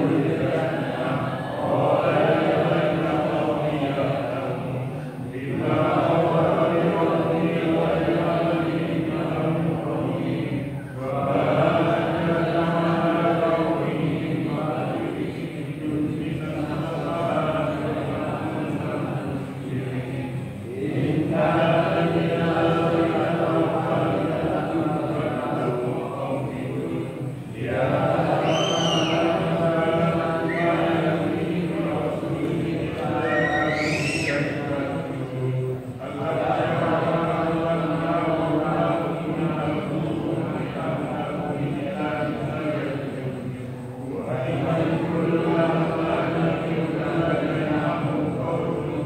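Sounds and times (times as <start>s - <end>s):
men chanting together: 0.0s - 49.0s.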